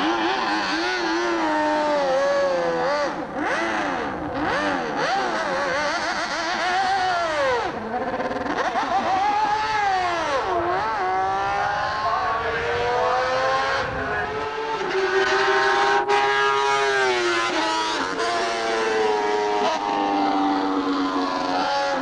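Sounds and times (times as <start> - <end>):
racing motorcycle accelerating: 0.0 - 22.0.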